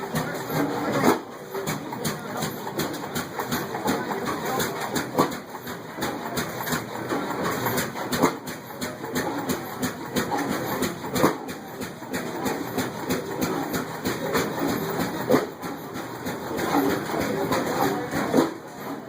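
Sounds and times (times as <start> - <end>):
stationary engines clattering: 0.0 - 19.0.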